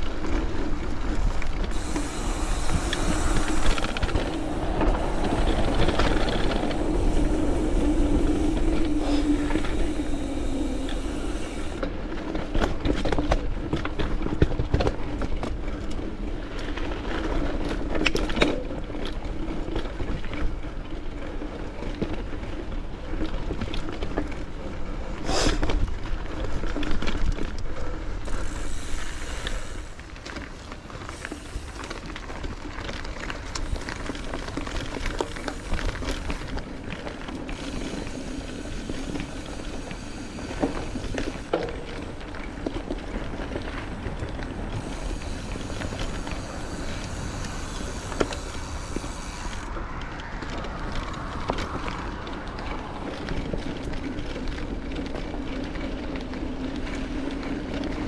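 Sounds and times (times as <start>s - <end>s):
bike knocking and rattling: 0.0s - 58.0s
bike tyre and drivetrain noise: 0.0s - 58.0s.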